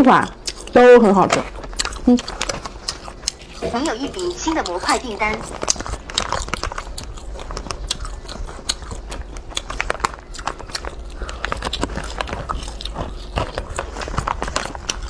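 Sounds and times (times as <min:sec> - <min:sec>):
chewing snack with mouth clicks: 0:00.0 - 0:15.0.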